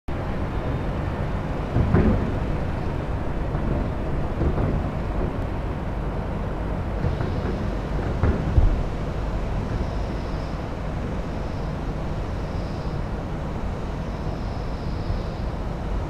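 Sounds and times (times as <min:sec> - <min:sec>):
low outdoor rumble: 0:00.1 - 0:16.0
wind on microphone: 0:00.2 - 0:14.4.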